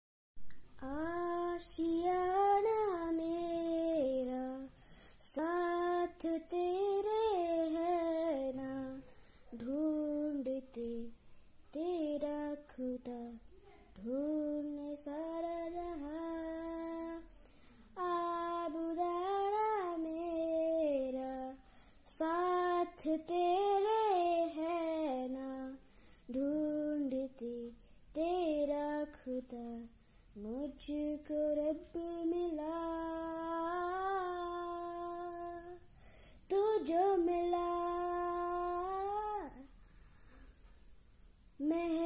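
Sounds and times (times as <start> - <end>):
boy singing unaccompanied: 0.7 - 39.7, 41.6 - 42.0.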